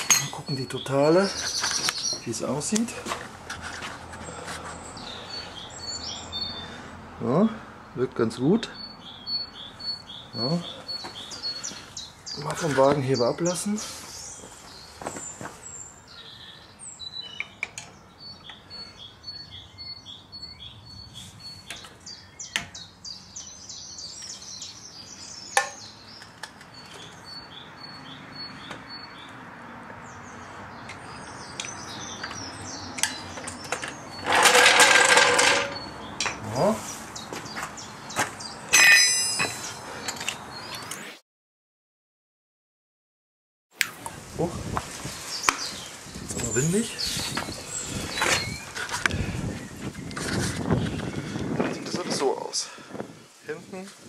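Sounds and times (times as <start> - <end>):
birds chirping and singing: 0.0 - 41.1, 44.2 - 53.7.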